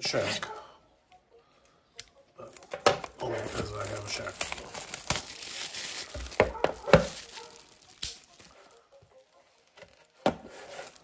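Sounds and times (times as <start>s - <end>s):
cards and packaging handled: 2.0s - 11.0s.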